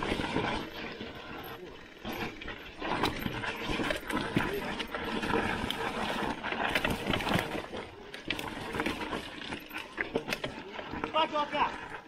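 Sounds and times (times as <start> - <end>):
bike rattling over bumps: 0.0 - 12.0
bike tyres on dirt trail: 0.0 - 12.0.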